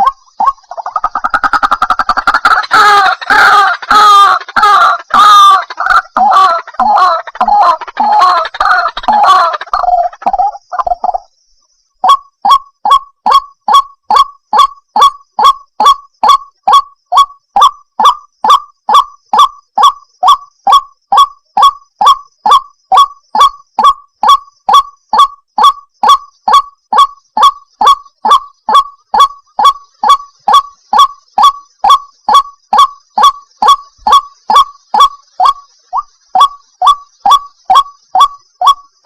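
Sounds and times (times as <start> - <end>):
waterhen calling: 0.0 - 11.3, 12.0 - 38.8.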